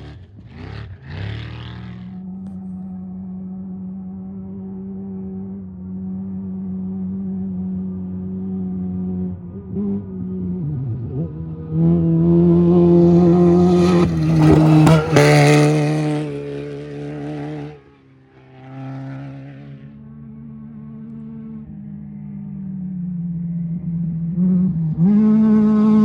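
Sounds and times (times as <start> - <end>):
fainter vehicle sound: 0.0 - 26.0
race vehicle passing at speed: 0.0 - 26.0.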